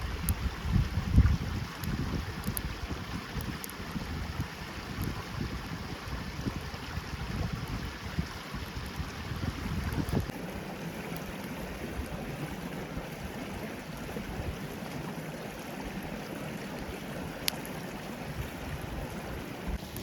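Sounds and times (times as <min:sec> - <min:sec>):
forest stream rushing: 0:00.0 - 0:20.0.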